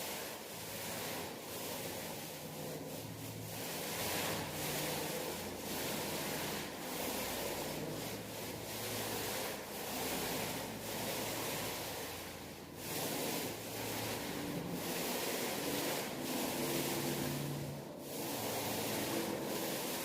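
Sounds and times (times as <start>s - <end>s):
paint roller rubbing on wall: 0.0s - 20.0s.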